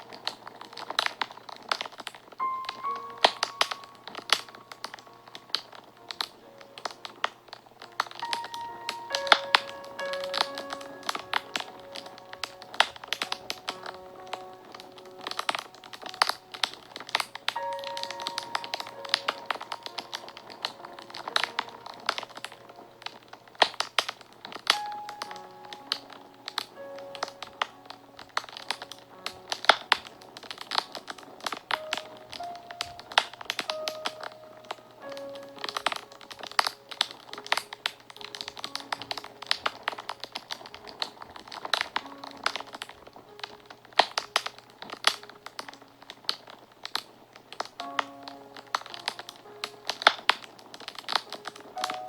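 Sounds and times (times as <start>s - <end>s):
soft background music: 0.0s - 52.0s
wood fire crackling and popping: 0.0s - 52.0s.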